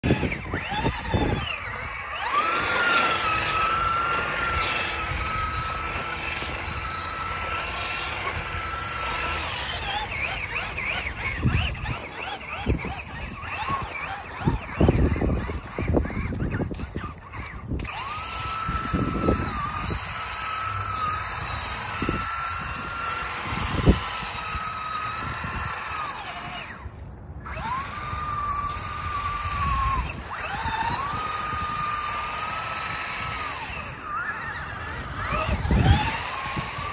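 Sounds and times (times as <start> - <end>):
electric motor whining: 0.0 - 36.9.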